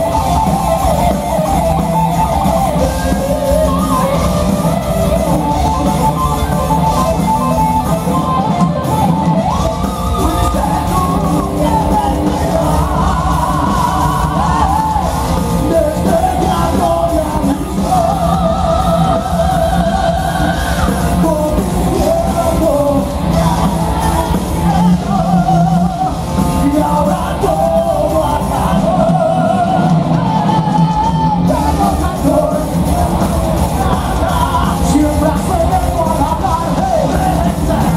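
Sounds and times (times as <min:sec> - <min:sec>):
live heavy metal band: 0:00.0 - 0:37.9
people singing and shouting: 0:00.0 - 0:37.9.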